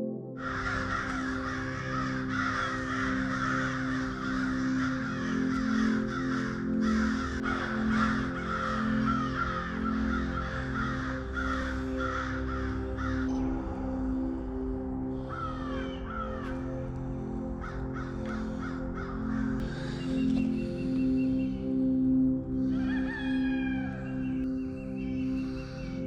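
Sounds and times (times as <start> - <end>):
soft ambient music: 0.0 - 26.0
birds chattering: 0.4 - 26.0.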